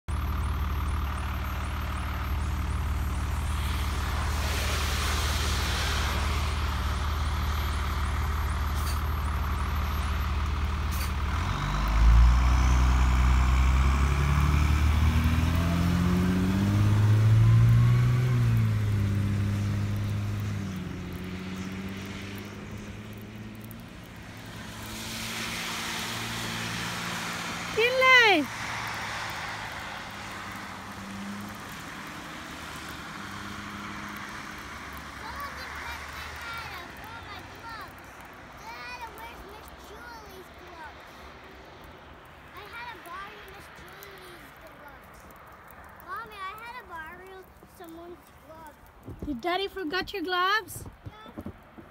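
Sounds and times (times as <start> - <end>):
bus engine idling and revving: 0.0 - 51.9.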